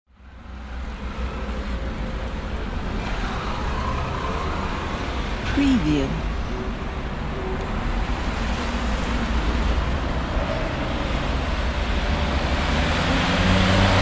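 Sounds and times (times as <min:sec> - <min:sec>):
city street traffic: 0:00.1 - 0:14.0.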